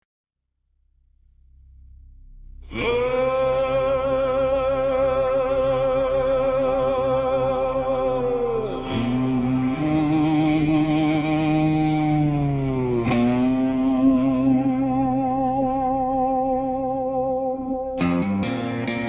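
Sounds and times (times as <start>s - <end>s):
low rumble: 0.6s - 18.0s
wordless voice singing with vibrato: 2.7s - 18.0s.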